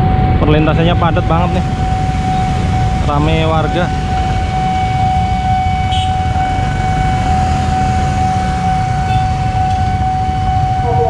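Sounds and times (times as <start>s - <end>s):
level crossing alarm tone: 0.0s - 11.0s
motorcycles idling: 0.5s - 11.0s.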